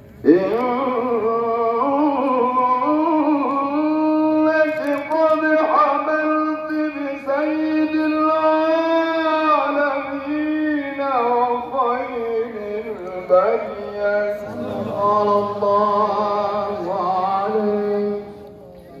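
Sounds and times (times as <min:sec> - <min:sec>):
man chanting melodic poetry: 0:00.1 - 0:19.0.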